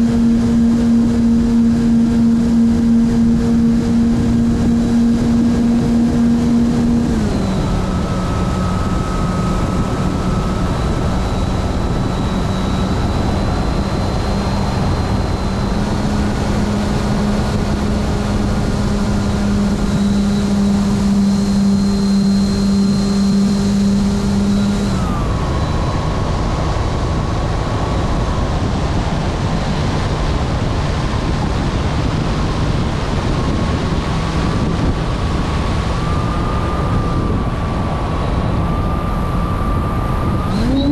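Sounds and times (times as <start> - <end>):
model airplane motor drone: 0.0 - 40.9
wind rush: 0.0 - 40.9.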